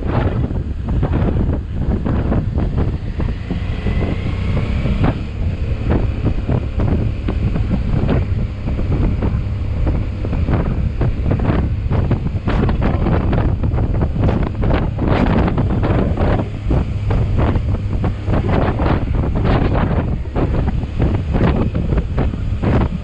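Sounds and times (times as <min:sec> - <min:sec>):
motorbike engine running: 0:00.0 - 0:23.0
wind buffeting microphone: 0:00.0 - 0:23.0.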